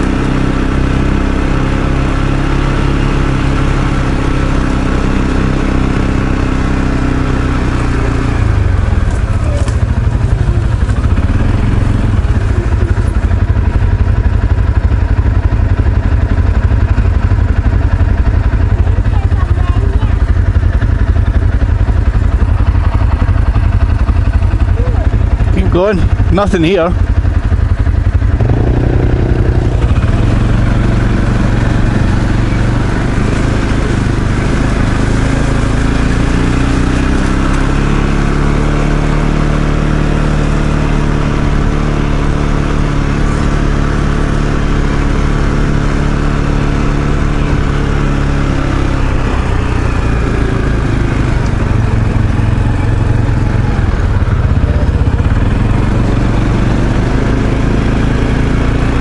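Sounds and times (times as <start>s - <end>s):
atv engine droning: 0.0s - 59.0s.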